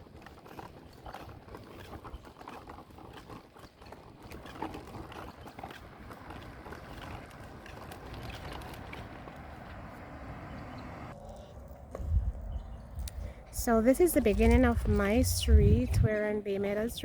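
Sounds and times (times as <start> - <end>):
footsteps on pavement: 0.0 - 16.8.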